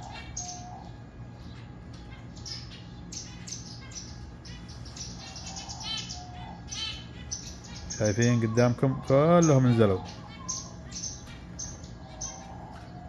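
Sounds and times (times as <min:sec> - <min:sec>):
finches chirping: 0:00.0 - 0:13.0
steady low hum: 0:00.0 - 0:13.0.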